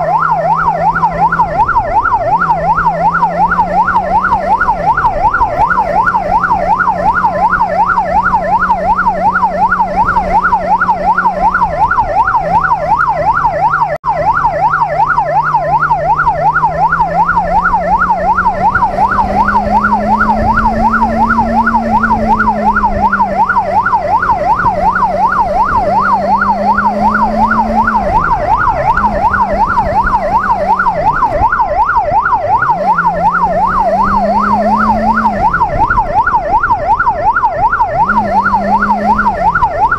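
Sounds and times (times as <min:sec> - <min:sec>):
electronic siren yelping: 0:00.0 - 0:39.9
motorcycle engine revving: 0:00.0 - 0:39.9.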